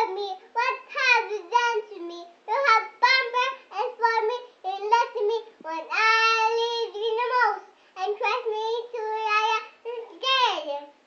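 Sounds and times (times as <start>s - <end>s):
girl singing unaccompanied: 0.0s - 11.0s.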